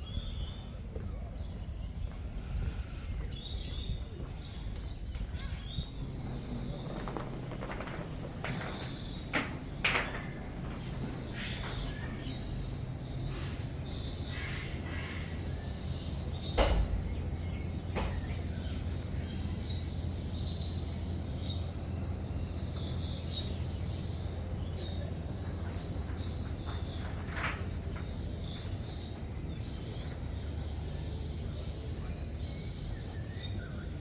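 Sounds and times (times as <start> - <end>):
lorikeets calling: 0.0 - 34.0
steady low hum: 0.0 - 34.0.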